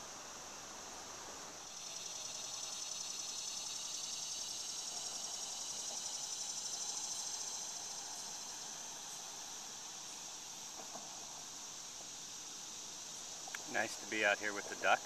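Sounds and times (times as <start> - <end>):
insect chorus pulsing buzz: 0.0 - 15.0.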